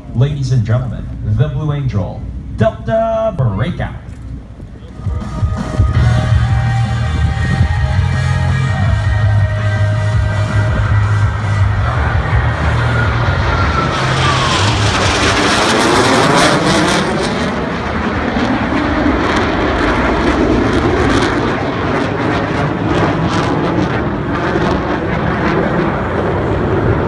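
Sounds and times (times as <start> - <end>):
jet engines roaring: 0.0 - 27.0
jet exhaust crackle: 4.0 - 27.0
falling jet whine: 4.4 - 27.0.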